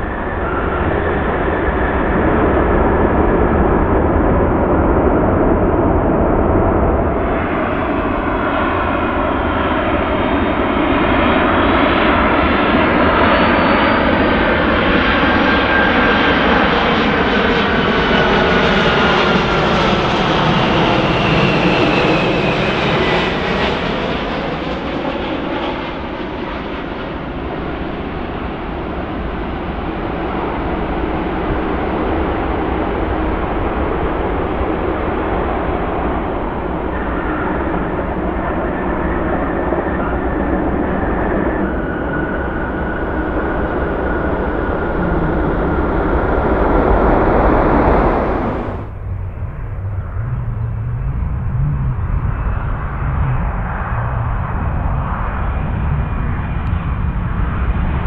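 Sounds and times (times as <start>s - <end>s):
airliner rolling along runway: 0.0s - 58.0s
jet engines roaring and whining: 0.0s - 58.0s.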